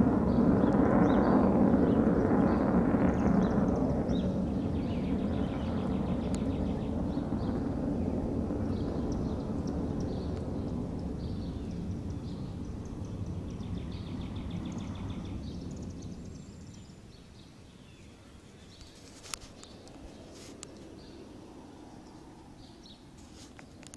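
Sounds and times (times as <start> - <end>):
jet engine rumble: 0.0 - 23.9
birds chirping: 0.2 - 23.9.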